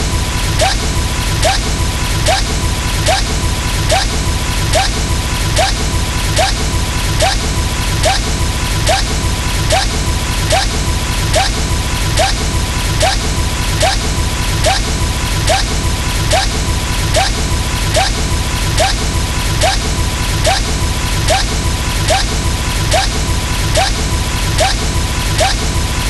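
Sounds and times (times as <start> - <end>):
steady tone: 0.4 - 26.0.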